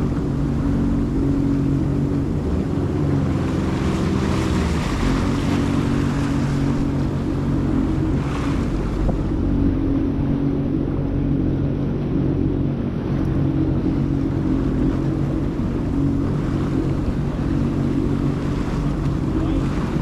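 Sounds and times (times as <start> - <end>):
jet ski engine humming: 0.0 - 20.0
rushing wind and water: 0.0 - 20.0.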